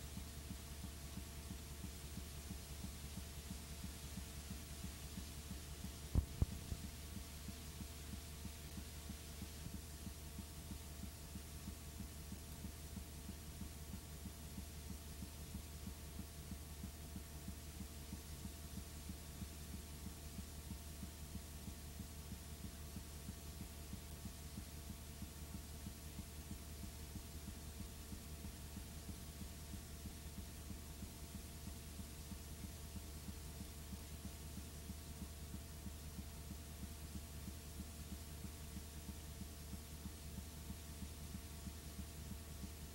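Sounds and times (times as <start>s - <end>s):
faint hiss: 0.0s - 42.9s
low electrical hum: 0.0s - 42.9s.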